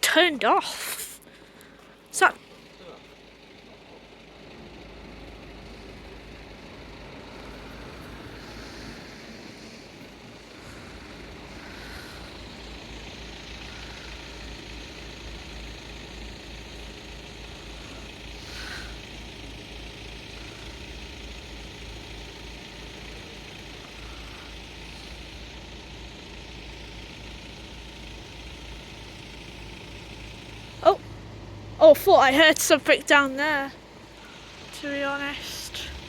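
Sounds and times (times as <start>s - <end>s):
traffic hum: 0.0s - 36.0s
vehicle engine idling: 0.0s - 36.0s.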